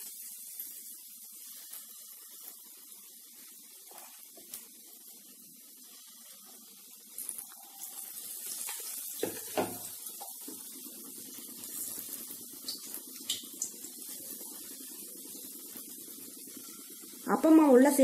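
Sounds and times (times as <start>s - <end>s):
batter sizzling in hot oil: 0.0s - 18.0s
oil popping and crackling: 0.0s - 18.0s.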